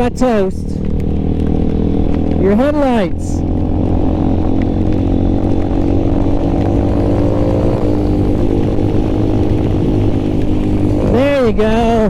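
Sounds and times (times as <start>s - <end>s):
small motorcycle engine droning: 0.0s - 12.0s.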